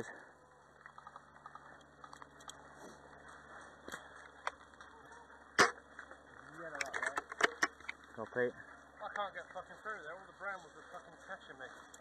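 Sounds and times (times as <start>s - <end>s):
light crackling on dry grass: 0.7s - 12.0s.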